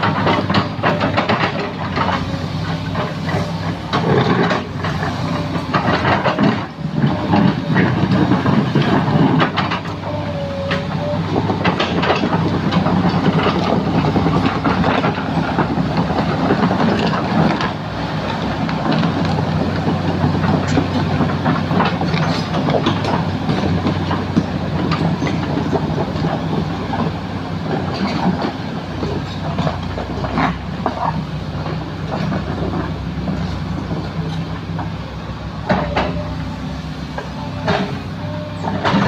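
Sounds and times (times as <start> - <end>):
diesel machinery engine drone: 0.0 - 39.0.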